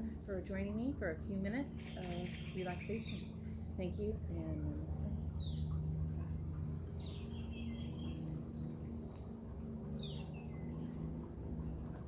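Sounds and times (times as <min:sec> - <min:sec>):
birds chirping: 0:00.0 - 0:12.0
low steady hum: 0:00.0 - 0:12.0.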